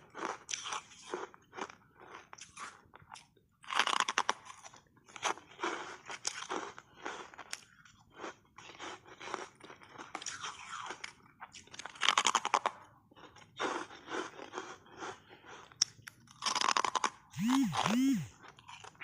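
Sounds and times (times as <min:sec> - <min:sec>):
ice crunching when chewed: 0:00.0 - 0:17.4, 0:18.0 - 0:19.0.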